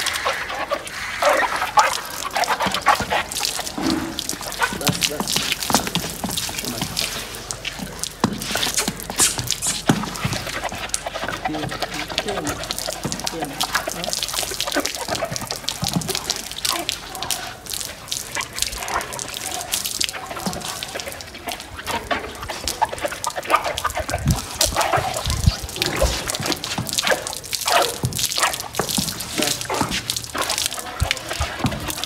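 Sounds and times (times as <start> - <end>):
water splashing and dripping: 0.0 - 32.0.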